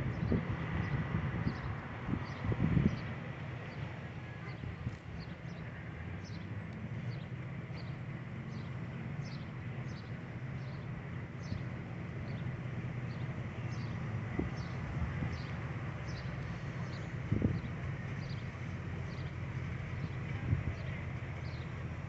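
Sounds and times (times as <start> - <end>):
fire engine idling: 0.0 - 22.0.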